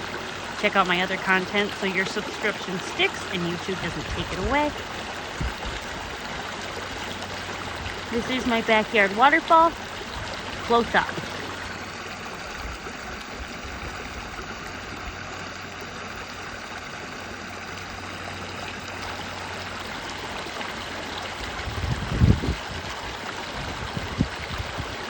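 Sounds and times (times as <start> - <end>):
waterfall splashing: 0.0 - 25.0.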